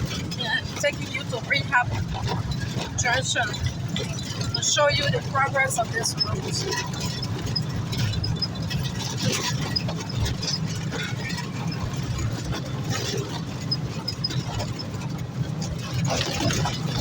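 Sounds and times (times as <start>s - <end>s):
knocks and rattles: 0.0s - 17.0s
vehicle engine and road rumble: 0.0s - 17.0s.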